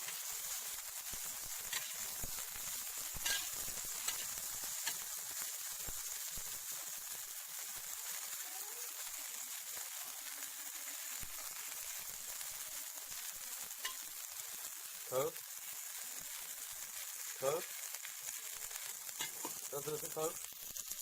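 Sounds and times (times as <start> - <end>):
lard sizzling in a frying pan: 0.0 - 21.0.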